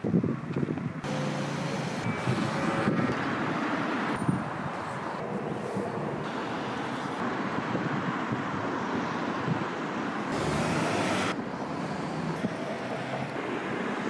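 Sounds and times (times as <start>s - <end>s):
cars passing: 1.0s - 14.0s.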